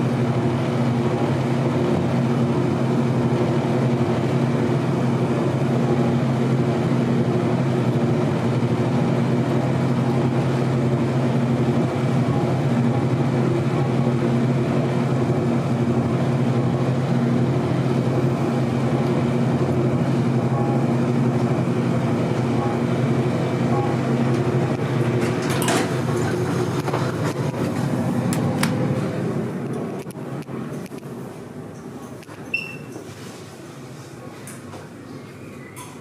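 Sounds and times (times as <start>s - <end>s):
elevator pump hum: 0.0s - 34.4s.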